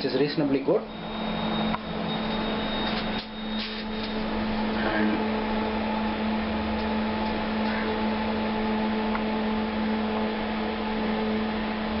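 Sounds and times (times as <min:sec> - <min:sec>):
cooling fan rushing: 0:00.0 - 0:12.0
electrical hum: 0:00.0 - 0:12.0.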